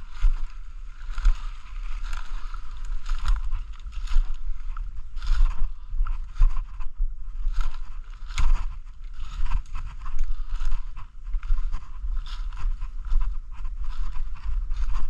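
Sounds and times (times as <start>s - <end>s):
footsteps crunching dry leaves: 0.0s - 15.0s
low rumble: 0.0s - 15.0s.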